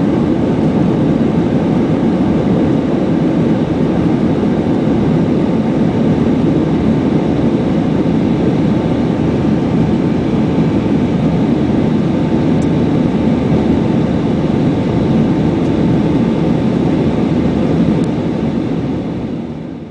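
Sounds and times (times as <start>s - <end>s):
jet engine and airflow noise: 0.0s - 19.9s.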